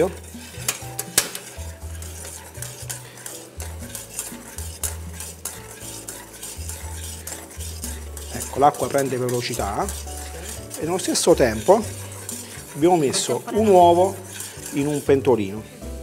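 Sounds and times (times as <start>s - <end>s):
spoon clinking against pot: 0.0s - 15.3s
metal spoon stirring water in pot: 0.0s - 15.8s.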